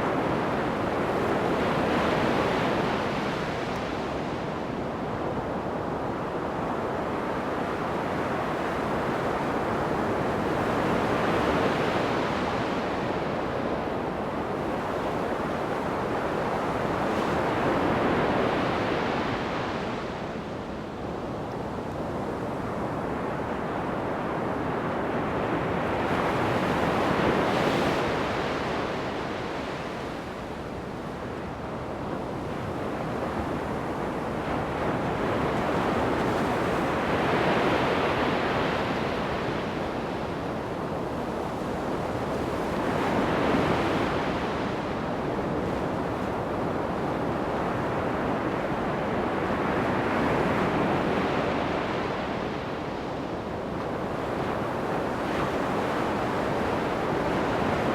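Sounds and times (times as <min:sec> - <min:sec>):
waves breaking on a beach: 0:00.0 - 0:57.9.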